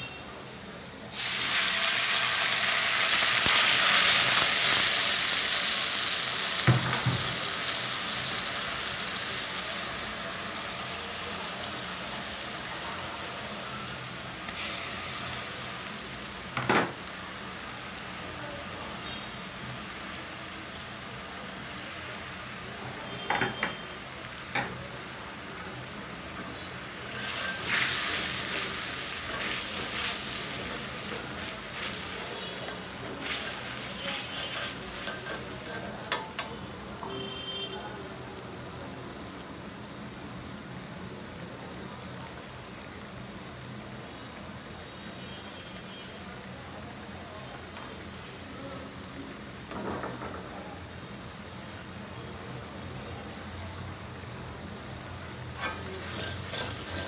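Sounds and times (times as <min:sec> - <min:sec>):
wok sizzling: 0:00.0 - 0:57.0.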